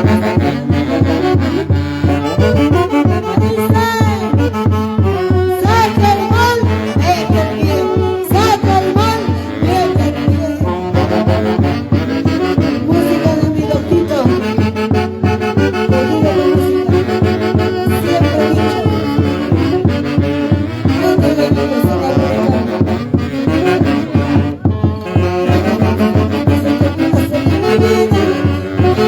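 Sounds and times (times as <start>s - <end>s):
wind band playing melody: 0.0s - 29.0s.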